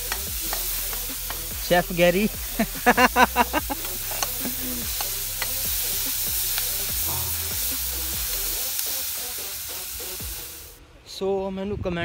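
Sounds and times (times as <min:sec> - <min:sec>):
vegetables sizzling in a pan: 0:00.0 - 0:10.8.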